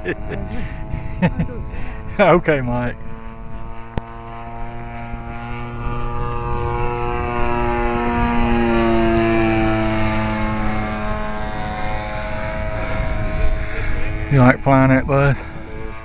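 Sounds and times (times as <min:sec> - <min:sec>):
model plane engine and propeller: 0:00.0 - 0:16.0.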